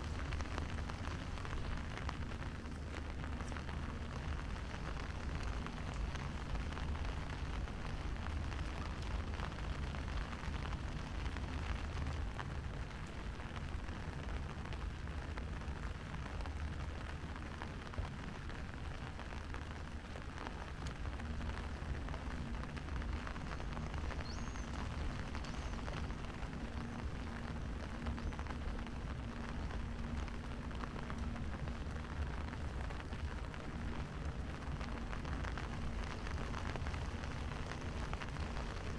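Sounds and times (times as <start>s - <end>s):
faint steady hum: 0.0s - 38.9s
rain on hard ground: 0.0s - 38.9s.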